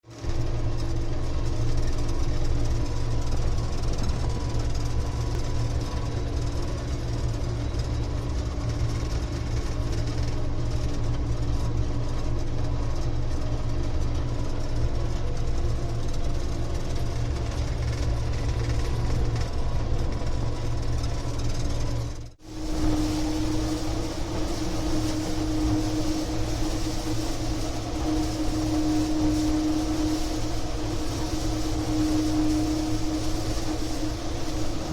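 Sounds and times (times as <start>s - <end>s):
combine harvester drone: 0.1s - 34.9s.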